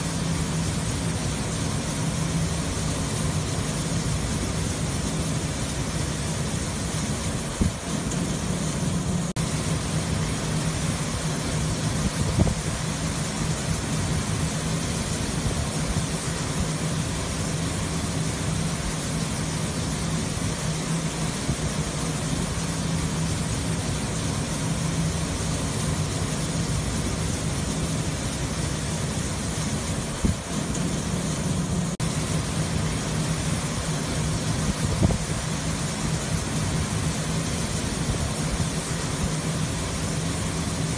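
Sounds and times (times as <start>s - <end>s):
low machinery hum: 0.0s - 40.9s.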